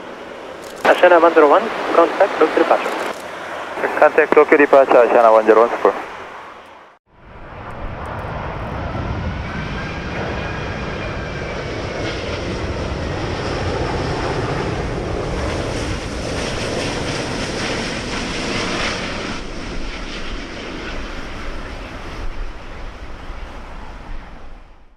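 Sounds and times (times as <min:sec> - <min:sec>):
jet engine whine: 0:00.0 - 0:24.9
jet engines roaring: 0:00.0 - 0:24.9.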